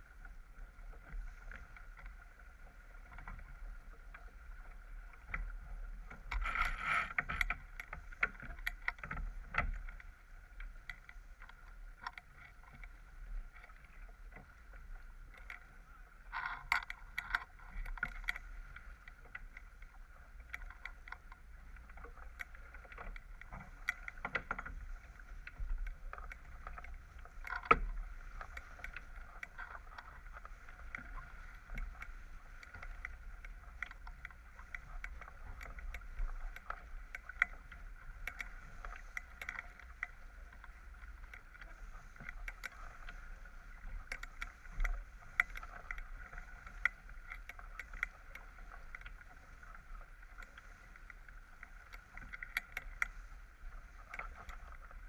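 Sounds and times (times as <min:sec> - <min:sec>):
small clicks and knocks: 0:00.0 - 0:55.0
water splashing along boat hull: 0:00.0 - 0:55.0.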